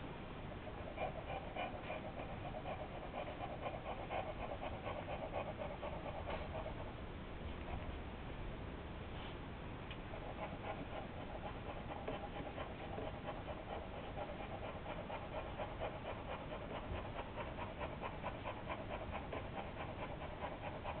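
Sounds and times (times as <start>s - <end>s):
rhythmic panting-like sound: 0.6s - 7.0s, 10.1s - 21.0s.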